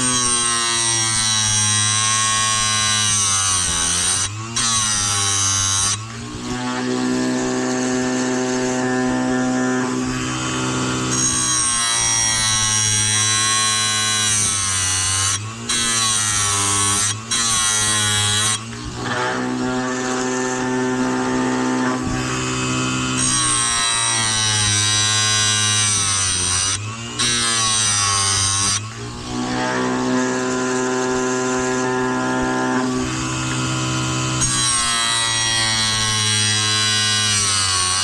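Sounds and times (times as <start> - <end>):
chain grinder humming: 0.0 - 38.0.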